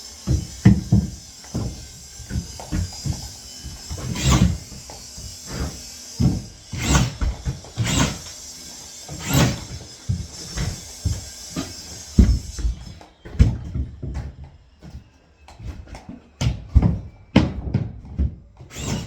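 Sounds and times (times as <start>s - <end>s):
knocks and thuds of drywall work: 0.0s - 19.0s.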